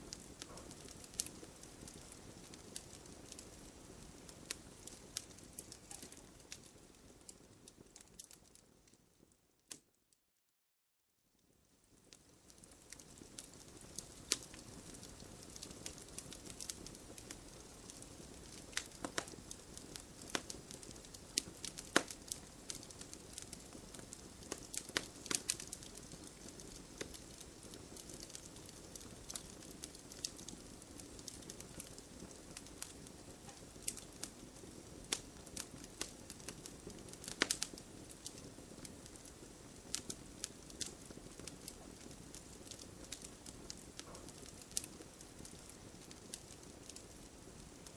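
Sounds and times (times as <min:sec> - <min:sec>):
fire crackling and popping: 0:00.0 - 0:09.9, 0:11.4 - 0:47.9
low hiss of burning: 0:00.0 - 0:09.9, 0:11.1 - 0:47.9.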